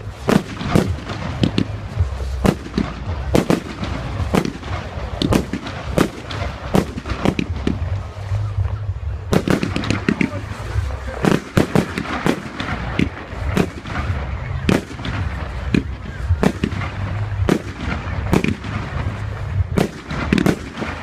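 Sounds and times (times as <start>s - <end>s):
fireworks bangs and cracks: 0.0s - 21.0s
low rumble: 0.0s - 21.0s.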